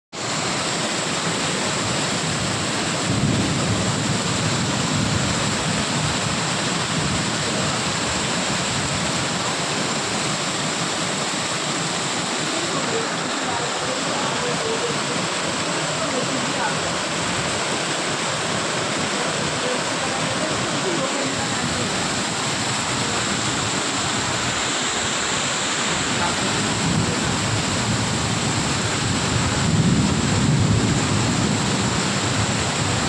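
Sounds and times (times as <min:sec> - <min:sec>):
heavy rain pouring: 0:00.1 - 0:33.0.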